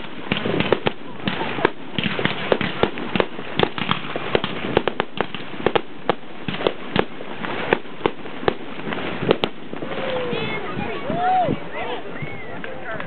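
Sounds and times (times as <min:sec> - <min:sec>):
fireworks popping and banging: 0:00.0 - 0:13.0.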